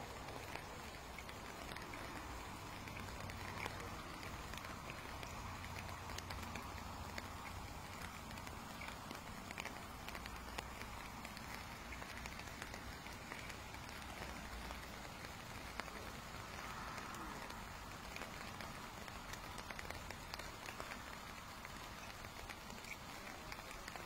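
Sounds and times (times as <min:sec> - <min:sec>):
rain falling on a lake: 0:00.0 - 0:24.0.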